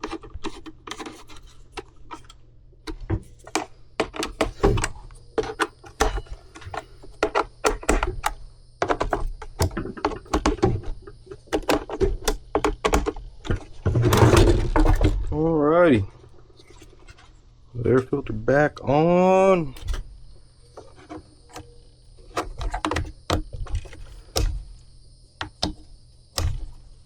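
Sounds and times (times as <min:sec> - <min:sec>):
plastic parts clicking and knocking: 0:00.0 - 0:15.3, 0:19.7 - 0:27.0.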